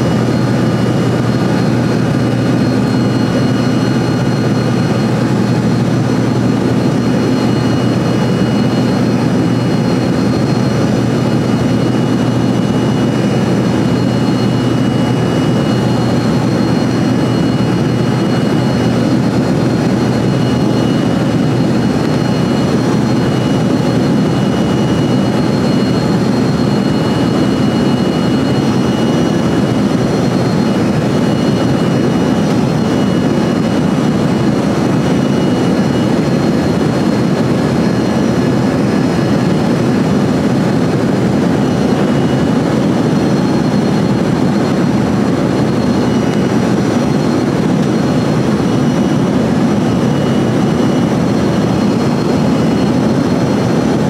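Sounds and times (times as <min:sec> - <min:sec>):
faint high engine whine: 0:00.0 - 0:54.0
jet cabin engine rush: 0:00.0 - 0:54.0.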